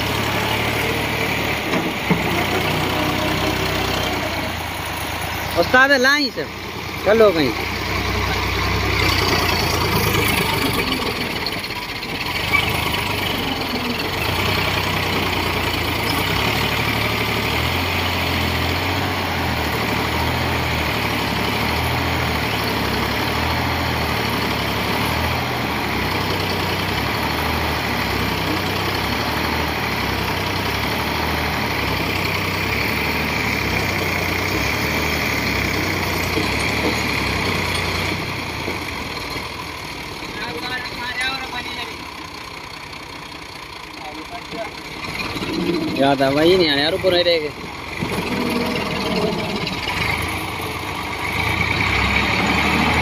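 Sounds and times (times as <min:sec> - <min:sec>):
tractor engine under load: 0:00.0 - 0:53.0.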